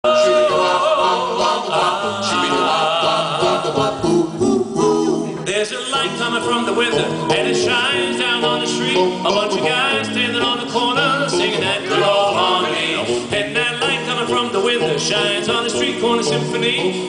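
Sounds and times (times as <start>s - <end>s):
vocal group singing a cappella: 0.0s - 17.0s.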